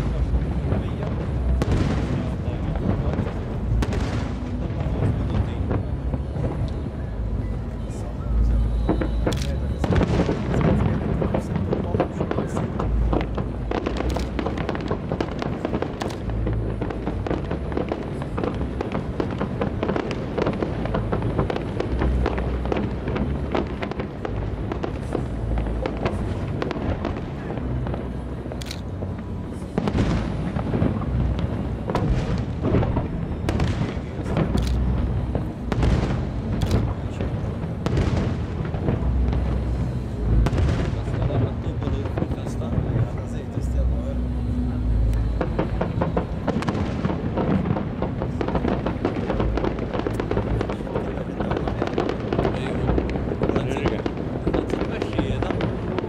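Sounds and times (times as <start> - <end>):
sharp firework bangs: 0.0 - 7.3, 8.5 - 56.0
fireworks booming and crackling: 0.0 - 56.0.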